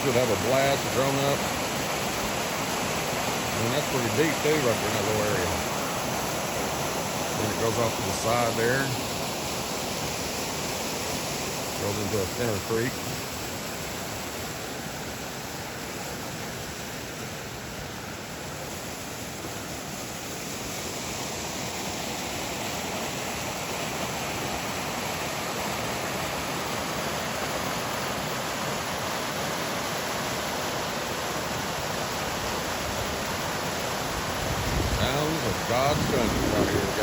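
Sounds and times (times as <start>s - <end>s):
small waterfall rushing: 0.0s - 37.0s.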